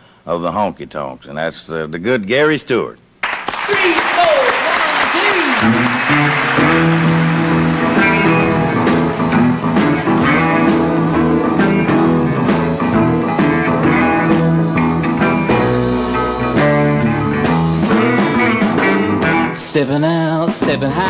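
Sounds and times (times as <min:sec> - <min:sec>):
country band playing: 0:03.8 - 0:21.0.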